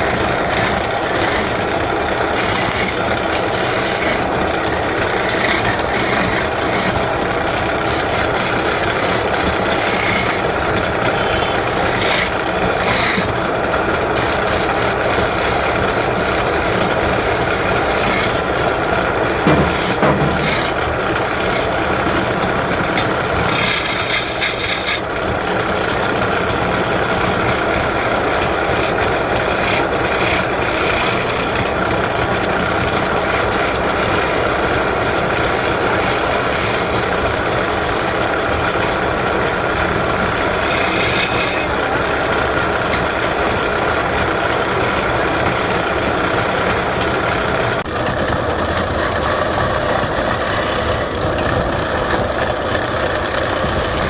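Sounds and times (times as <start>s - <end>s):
tool scraping spinning wood: 0.0s - 54.0s
wood lathe running: 0.0s - 54.0s.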